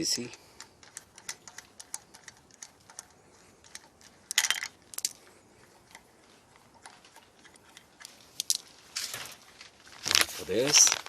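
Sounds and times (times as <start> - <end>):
metal parts and tools clinking: 0.5 - 9.4.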